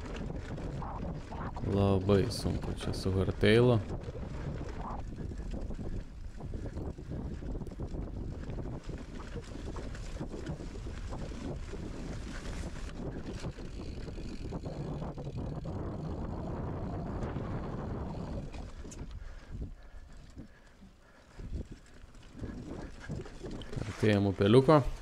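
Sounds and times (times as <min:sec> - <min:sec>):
mountain bike rattling: 0:00.0 - 0:25.0
wind buffeting camera: 0:00.0 - 0:25.0.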